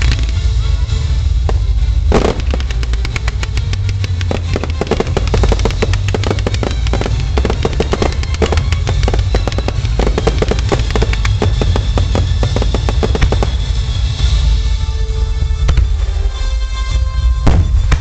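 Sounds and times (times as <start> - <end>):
fireworks bangs and cracks: 0.0 - 14.6, 17.4 - 18.0
low rumble: 0.0 - 18.0.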